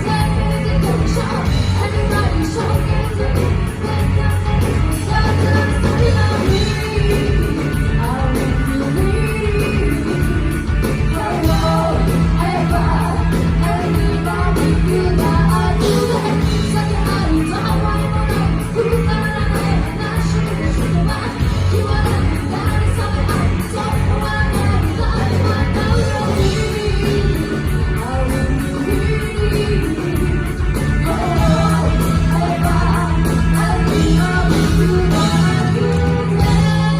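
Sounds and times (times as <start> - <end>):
live rock band with singing: 0.0 - 36.9.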